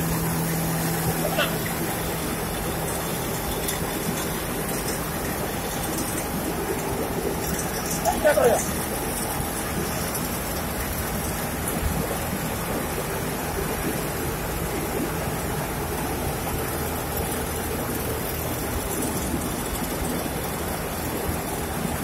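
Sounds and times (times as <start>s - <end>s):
mill machinery running: 0.0s - 22.0s.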